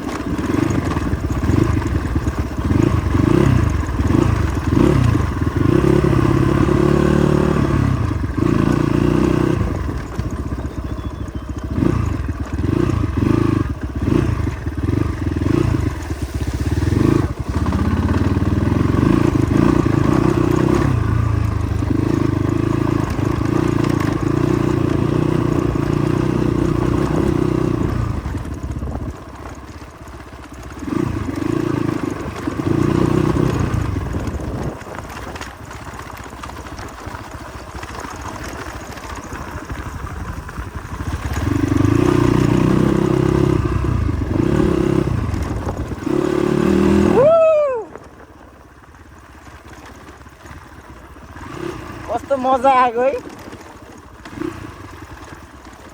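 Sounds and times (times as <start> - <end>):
motorcycle engine under load: 0.0 - 55.9.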